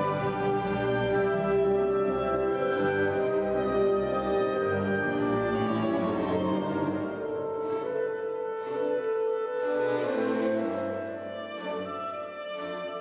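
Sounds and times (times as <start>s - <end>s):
strings holding sustained notes: 0.0s - 13.0s
woodwinds holding sustained notes: 0.0s - 13.0s.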